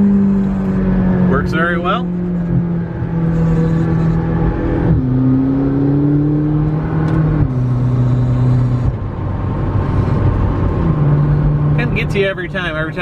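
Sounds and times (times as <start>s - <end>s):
car engine shifting up gears: 0.0s - 13.0s.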